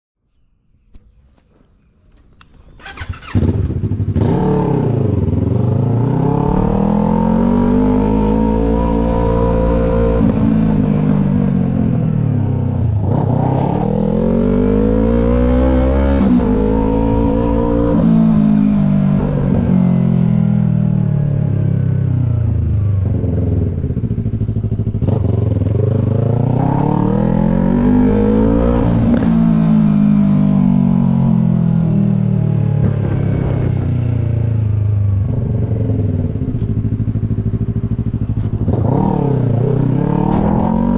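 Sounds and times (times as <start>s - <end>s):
motorcycle engine revving: 2.6s - 40.9s.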